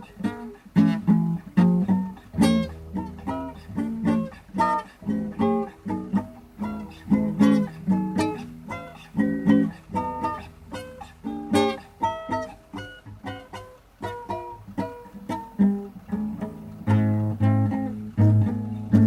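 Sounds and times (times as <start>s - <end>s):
acoustic guitar blues: 0.0s - 19.0s.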